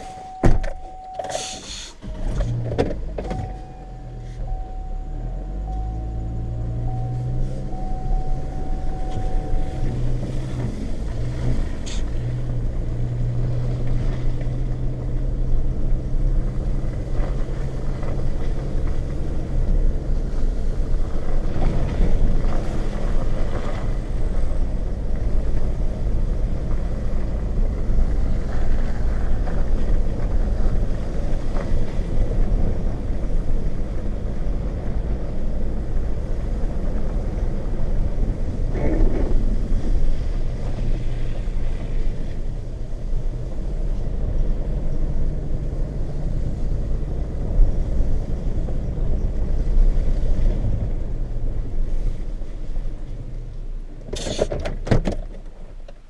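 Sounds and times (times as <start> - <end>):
truck engine hum: 0.0 - 54.4
tyres rumbling on rough track: 0.0 - 56.0.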